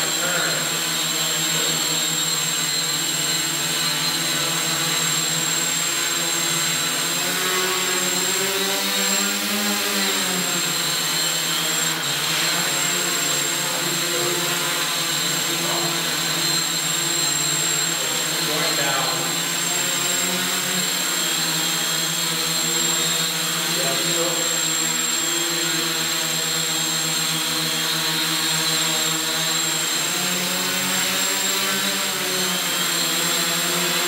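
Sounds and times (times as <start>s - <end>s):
quadcopter motors whining: 0.0s - 34.0s.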